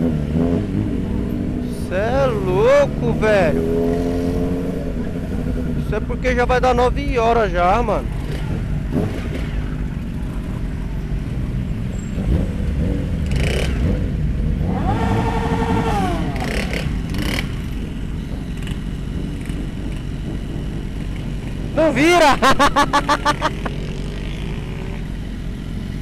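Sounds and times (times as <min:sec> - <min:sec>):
traffic: 0:00.0 - 0:26.0
motorcycle engine running: 0:03.0 - 0:26.0.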